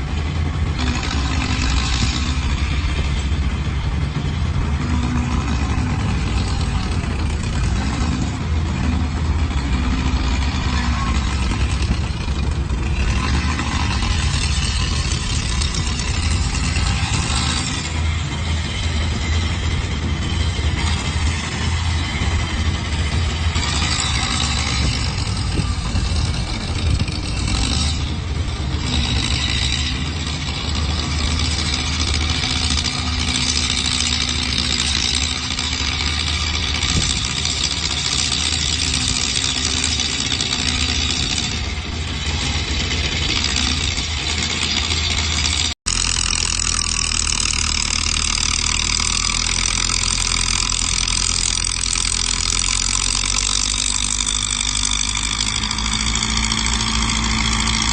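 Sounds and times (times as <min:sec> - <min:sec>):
heavy diesel machinery engines: 0:00.0 - 0:57.9.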